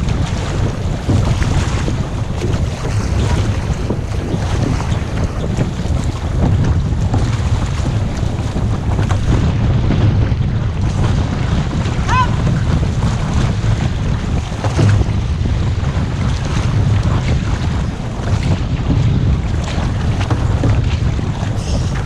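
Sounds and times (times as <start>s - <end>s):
water splashing against canoe: 0.0s - 22.0s
wind buffeting microphone: 0.0s - 22.0s.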